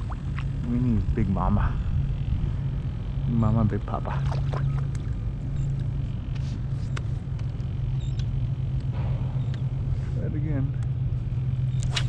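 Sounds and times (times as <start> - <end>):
low rumble: 0.0 - 11.9.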